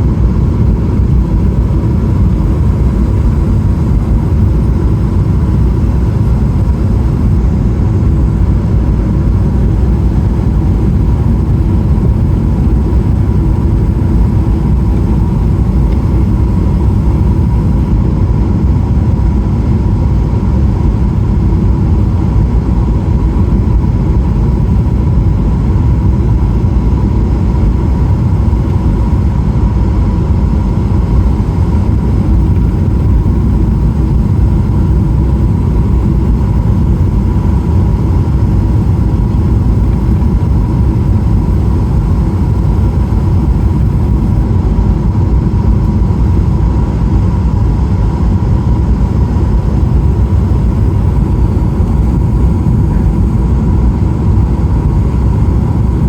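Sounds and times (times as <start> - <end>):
airliner cabin rumble: 0.0 - 56.0
faint high hum: 0.0 - 56.0.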